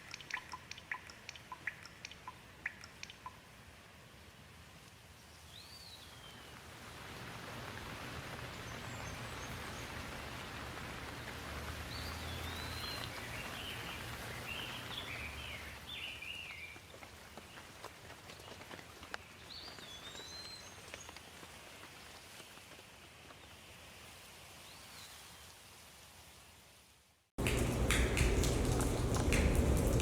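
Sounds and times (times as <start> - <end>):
rain falling on leaves: 4.1 - 26.8, 27.4 - 30.0.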